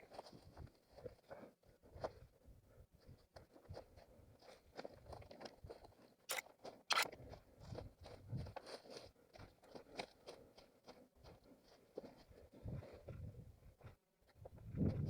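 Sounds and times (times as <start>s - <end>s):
running footsteps on forest ground: 0.0s - 15.0s.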